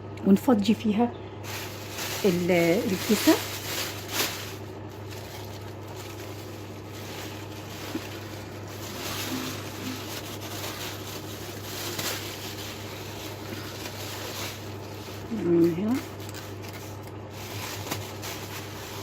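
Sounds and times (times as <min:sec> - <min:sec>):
low hum and hiss: 0:00.0 - 0:19.0
plastic bag rustling: 0:01.4 - 0:19.0.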